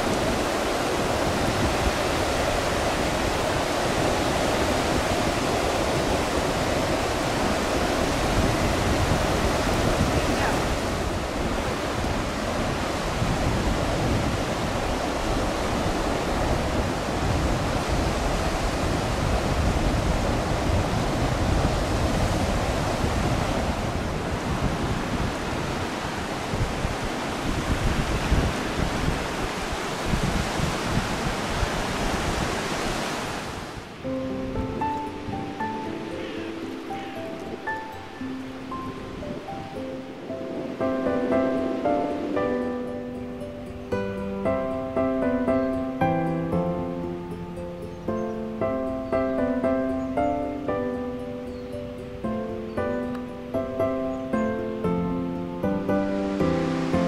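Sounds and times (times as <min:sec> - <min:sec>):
surf washing on beach: 0:00.0 - 0:57.0
wind buffeting microphone: 0:00.0 - 0:57.0.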